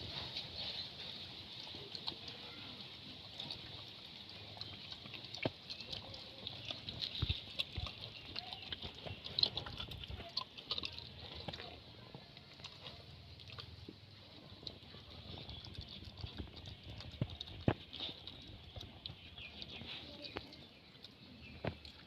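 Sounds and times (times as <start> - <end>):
dog chewing: 0.0 - 22.0.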